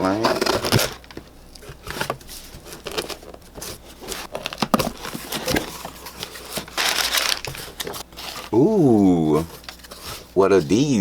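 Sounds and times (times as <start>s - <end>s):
packaging tearing and crinkling: 0.0s - 10.4s.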